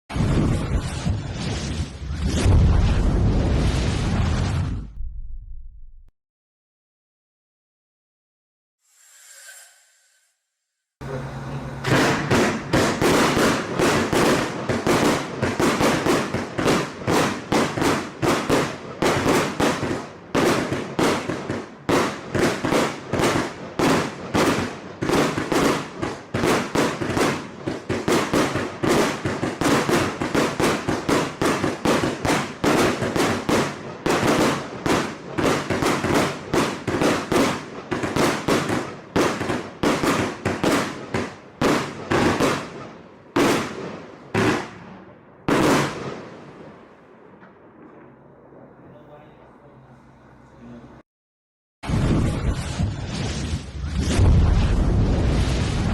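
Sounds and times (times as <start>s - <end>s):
firework cake firing barrage: 0.1s - 5.0s, 11.0s - 47.0s, 51.8s - 55.9s.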